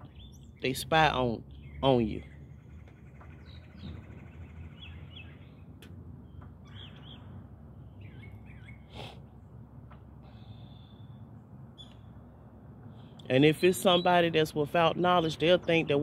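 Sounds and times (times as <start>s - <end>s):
small birds chirping: 0.0s - 9.6s, 10.3s - 16.0s.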